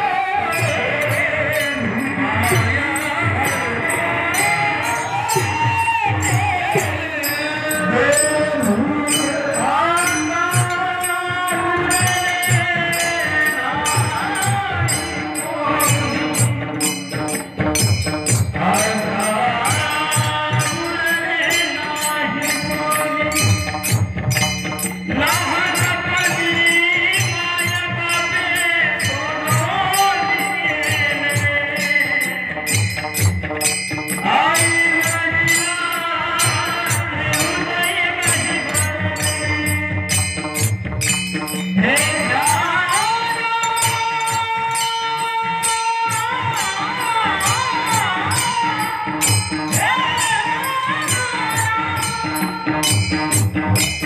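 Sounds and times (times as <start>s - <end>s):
drum: 0.0s - 54.0s
hand cymbals clashing: 0.0s - 54.0s
man singing: 0.0s - 54.0s.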